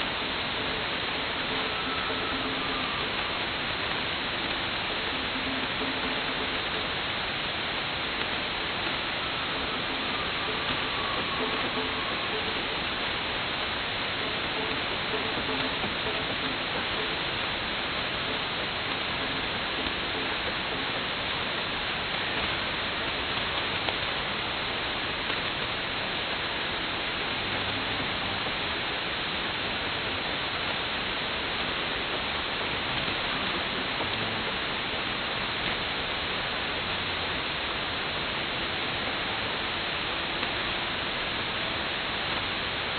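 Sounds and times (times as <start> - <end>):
shortwave radio static: 0.0 - 42.9.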